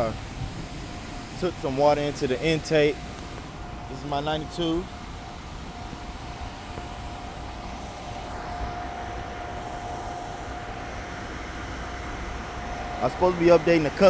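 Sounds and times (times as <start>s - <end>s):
steady rain hiss: 0.0s - 14.0s
thin steady whine: 0.0s - 14.0s.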